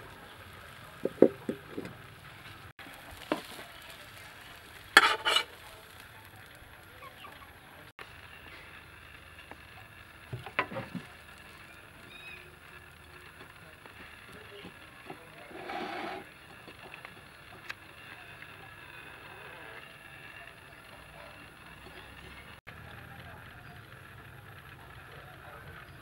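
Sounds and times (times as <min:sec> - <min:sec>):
egg sizzling in a pan: 0:00.0 - 0:26.0.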